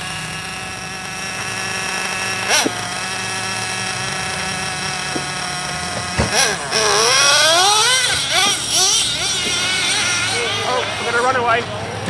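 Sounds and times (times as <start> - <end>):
small engine buzzing and revving: 0.0 - 12.0.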